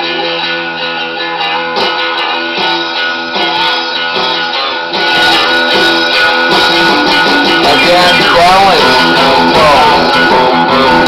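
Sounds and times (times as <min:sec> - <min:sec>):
song with guitar from tape: 0:00.0 - 0:11.0.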